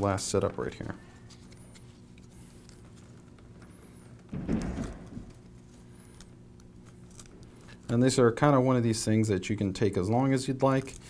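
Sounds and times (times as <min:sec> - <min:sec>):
faint steady hum: 0:00.0 - 0:11.0
cables rustling and scraping: 0:00.3 - 0:11.0.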